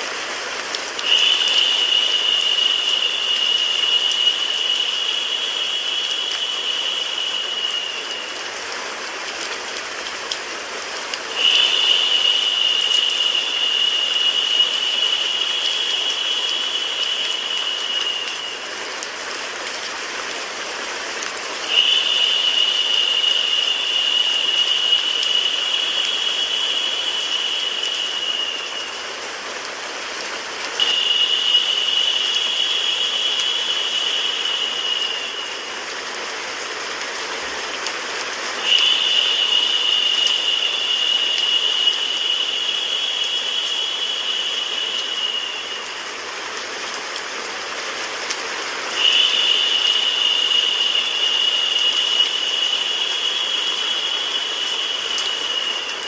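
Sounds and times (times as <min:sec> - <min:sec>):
louder higher hiss: 0:00.0 - 0:08.4, 0:11.2 - 0:18.9, 0:21.7 - 0:36.5, 0:38.6 - 0:47.5, 0:49.0 - 0:56.0
steady rain hiss: 0:00.0 - 0:56.0.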